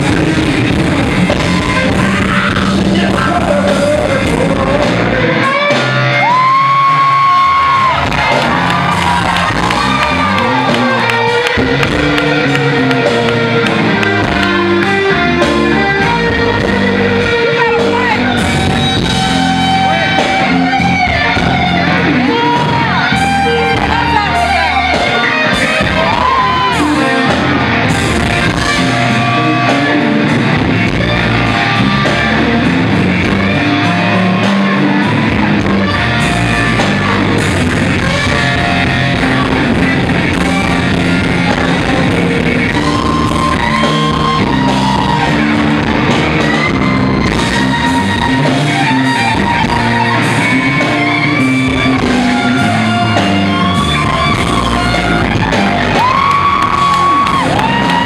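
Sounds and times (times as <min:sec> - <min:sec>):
electric guitar bending notes: 0:00.0 - 0:58.0
live rock band playing: 0:00.0 - 0:58.0.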